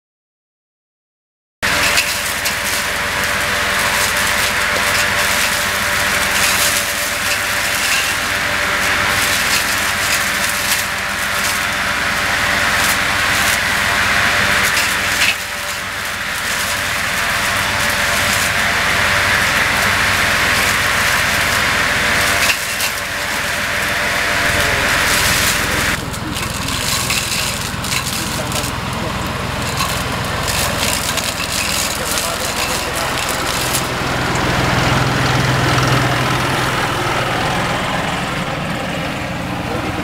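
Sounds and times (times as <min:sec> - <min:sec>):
cutter snapping branches: 0:01.6 - 0:34.8
tractor engine running: 0:01.6 - 0:40.0.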